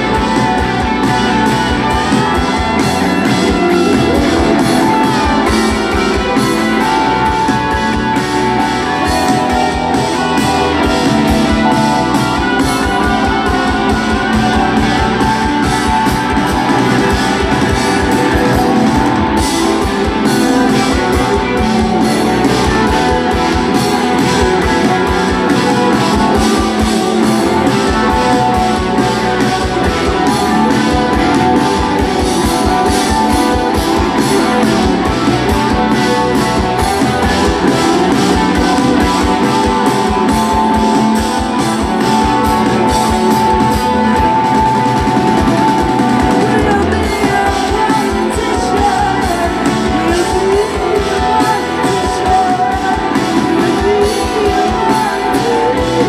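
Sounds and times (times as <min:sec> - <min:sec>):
drum kit: 0:00.0 - 0:56.0
electric guitars strummed: 0:00.0 - 0:56.0
keyboard: 0:00.0 - 0:56.0.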